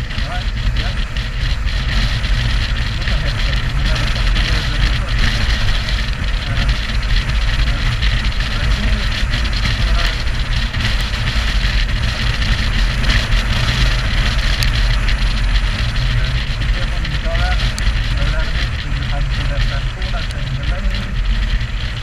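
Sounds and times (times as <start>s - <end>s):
motorcycle engine: 0.0s - 22.0s
tyre noise: 0.0s - 22.0s
wind rushing on microphone: 0.0s - 22.0s.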